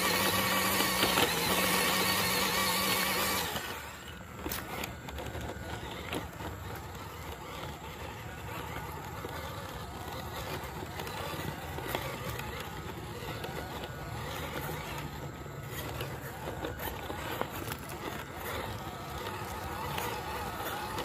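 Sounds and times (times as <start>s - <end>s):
toy car electric motor whirring: 0.0s - 21.0s.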